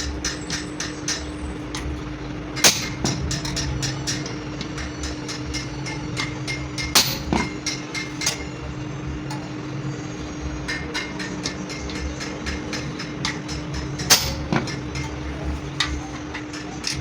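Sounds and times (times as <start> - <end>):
hammer tapping on metal: 0.0 - 17.0
steady machine hum: 0.0 - 17.0.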